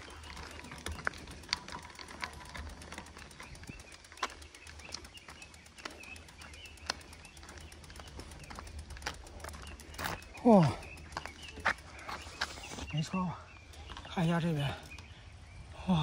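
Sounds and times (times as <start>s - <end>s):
birds calling and singing: 0.0s - 16.0s.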